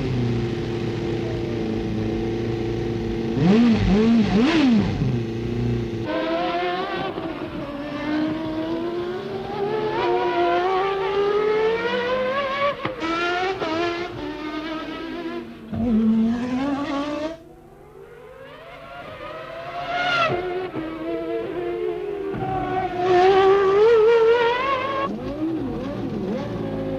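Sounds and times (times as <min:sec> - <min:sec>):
racing car engines revving: 0:00.0 - 0:26.9.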